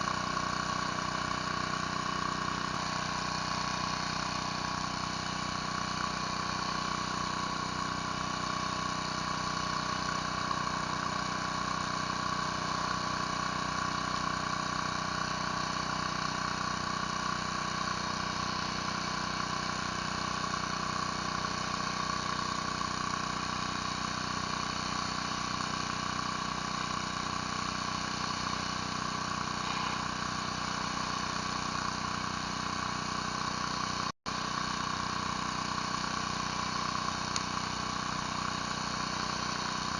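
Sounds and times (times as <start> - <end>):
pressure washer spraying concrete: 0.0 - 39.9.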